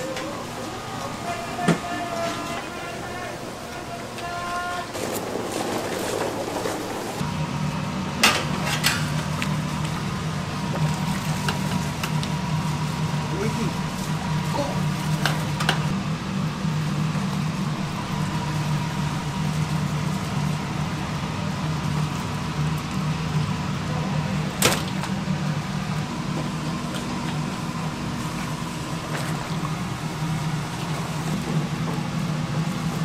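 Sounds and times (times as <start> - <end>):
low hum of cooking equipment: 0.0 - 33.0.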